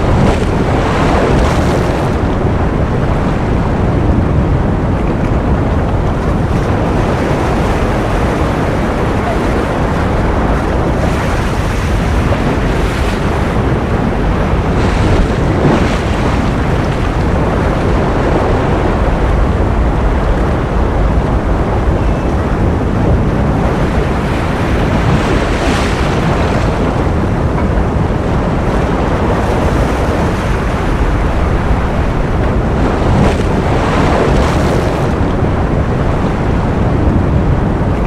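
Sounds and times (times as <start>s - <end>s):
ocean waves: 0.0s - 38.0s
wind: 0.0s - 38.0s.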